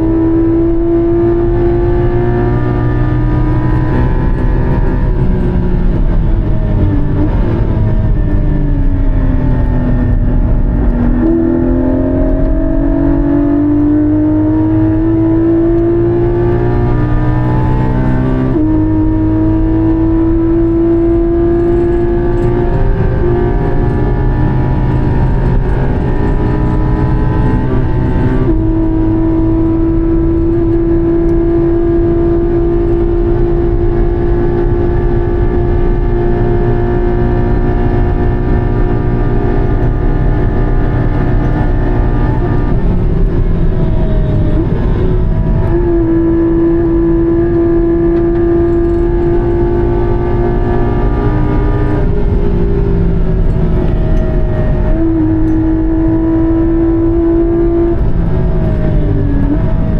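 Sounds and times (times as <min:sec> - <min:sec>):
car engine at high revs: 0:00.0 - 0:59.9.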